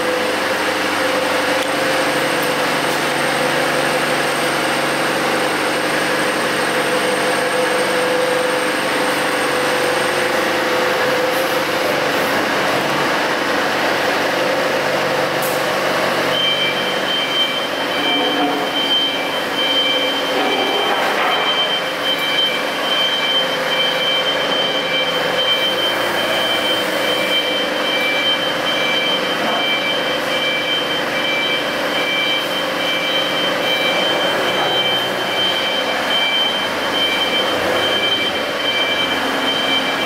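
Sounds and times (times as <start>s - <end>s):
diesel generator drone: 0.0s - 40.0s.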